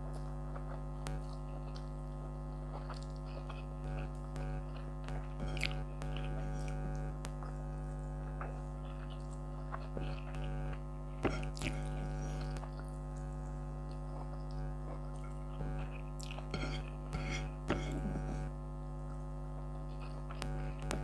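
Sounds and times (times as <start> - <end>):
faint chewing: 0.0 - 7.6, 8.2 - 18.4, 19.0 - 21.0
air conditioner humming: 0.0 - 21.0.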